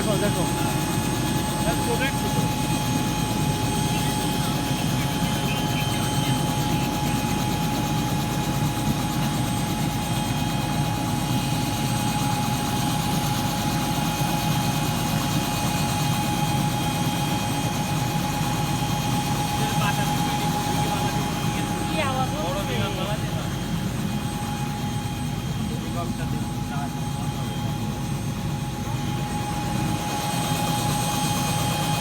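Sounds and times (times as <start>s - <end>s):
helicopter running close by: 0.0s - 32.0s.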